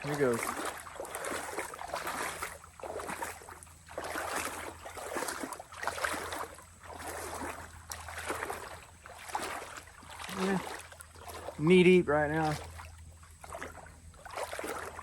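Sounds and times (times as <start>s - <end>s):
person wading through water: 0.0s - 15.0s.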